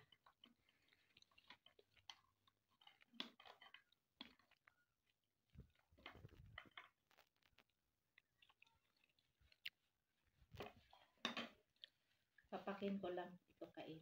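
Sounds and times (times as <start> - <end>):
person chewing: 0.0 - 12.4.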